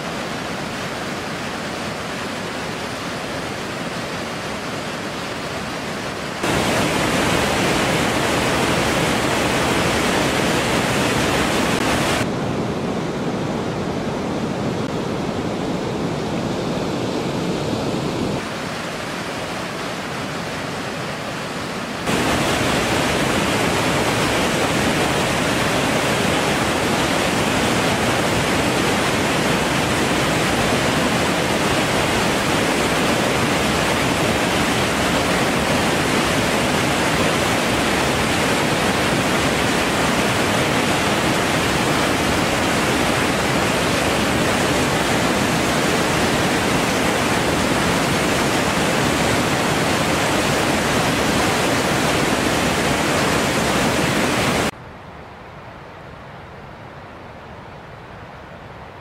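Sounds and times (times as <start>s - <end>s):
river rushing through rapids: 0.0s - 54.8s.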